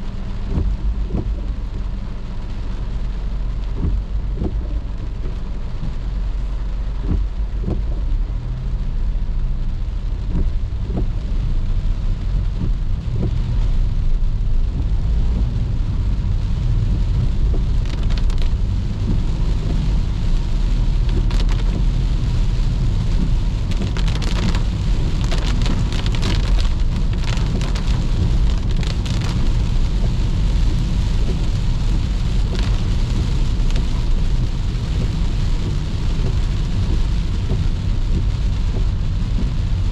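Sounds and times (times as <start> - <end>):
car tyres on wet road: 0.0 - 39.9
rain on a car: 0.0 - 39.9
raindrop taps: 0.1 - 39.9.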